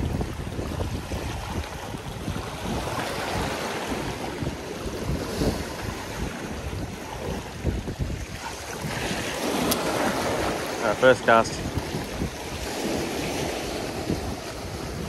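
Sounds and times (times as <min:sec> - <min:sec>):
waves washing on rocky shore: 0:00.0 - 0:15.0
wind buffeting microphone: 0:00.0 - 0:15.0.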